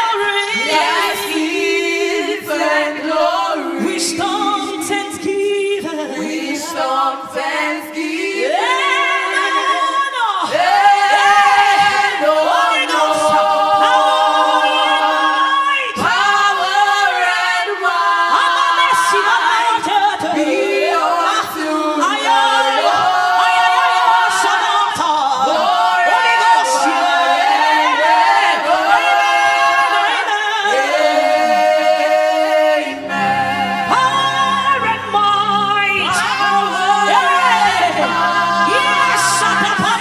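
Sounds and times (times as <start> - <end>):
gospel singing in harmony: 0.0 - 40.0.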